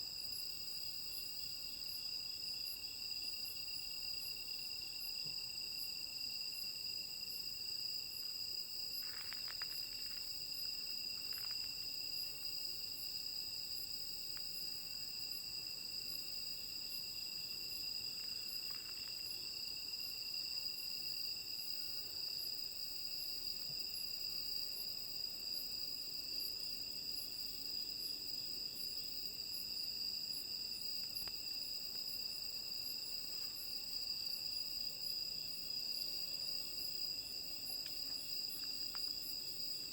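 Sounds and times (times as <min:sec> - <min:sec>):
high insect chirp: 0:00.0 - 0:39.9
insects trilling: 0:02.7 - 0:25.6, 0:26.3 - 0:39.9.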